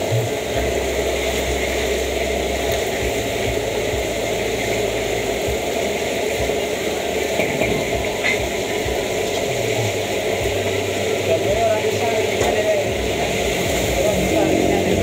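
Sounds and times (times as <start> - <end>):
gas wok burner roaring: 0.0 - 15.0
oil sizzling and bubbling: 0.0 - 15.0.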